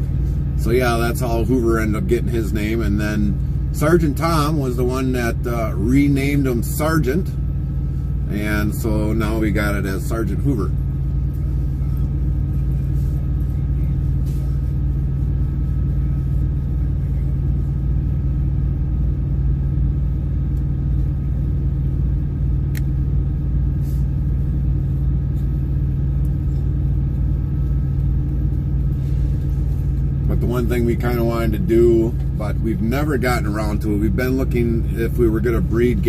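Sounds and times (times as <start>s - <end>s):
truck engine rumble: 0.0s - 36.0s.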